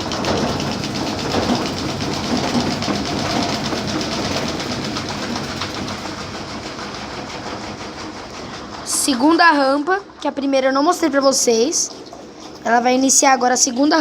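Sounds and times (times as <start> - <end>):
washing machine spinning and rattling: 0.0 - 14.0.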